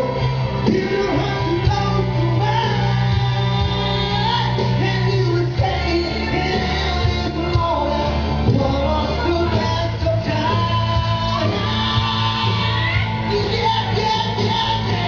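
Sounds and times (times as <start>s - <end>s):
loud amplified backing music: 0.0s - 15.0s
man singing into a microphone: 0.0s - 15.0s.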